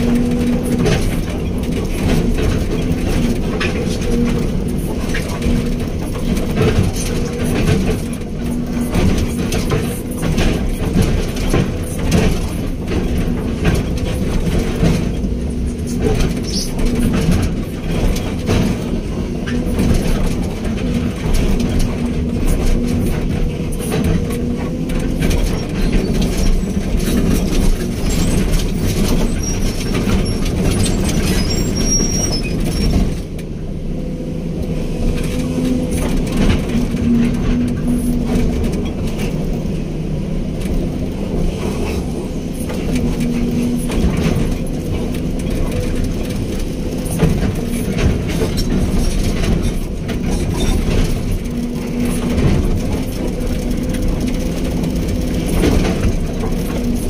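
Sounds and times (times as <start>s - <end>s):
knocks and clanks: 0.0s - 33.6s, 35.1s - 39.9s, 40.5s - 57.0s
excavator diesel engine running: 0.0s - 57.0s.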